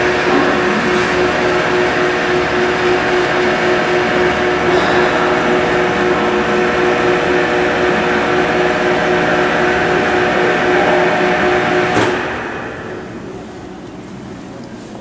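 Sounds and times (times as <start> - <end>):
electric motor whining: 0.0 - 13.5
machine stopping clunk: 0.0 - 14.1.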